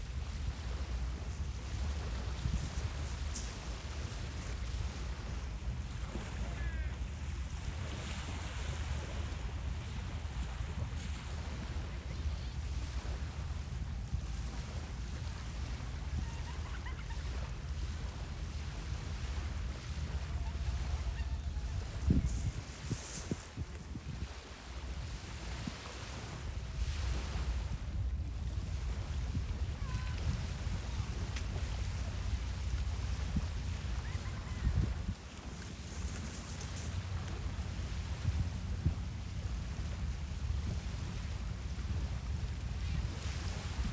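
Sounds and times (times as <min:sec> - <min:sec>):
wind rumbling on microphone: 0:00.0 - 0:43.9.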